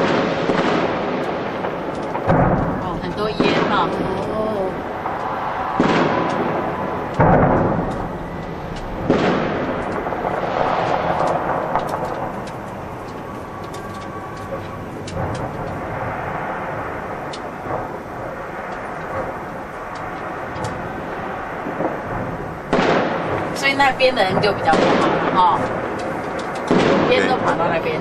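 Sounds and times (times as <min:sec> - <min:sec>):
fireworks booming: 0:00.0 - 0:28.0
fireworks crackling: 0:00.0 - 0:28.0.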